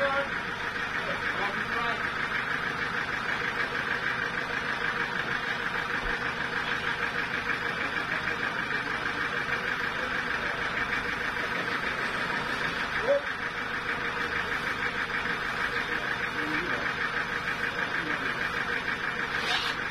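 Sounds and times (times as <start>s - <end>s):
sawmill machinery running: 0.0s - 19.9s.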